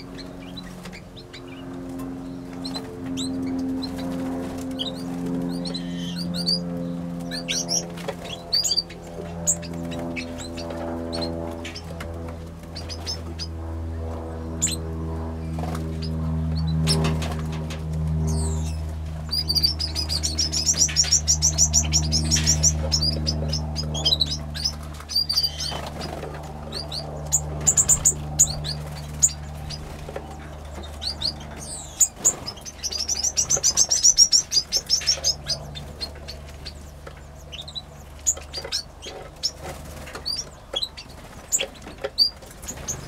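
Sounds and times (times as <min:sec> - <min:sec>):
low steady hum: 0:00.0 - 0:43.0
small birds chirping and singing: 0:00.0 - 0:43.0
rapid high bird trills: 0:00.1 - 0:12.0, 0:18.3 - 0:43.0.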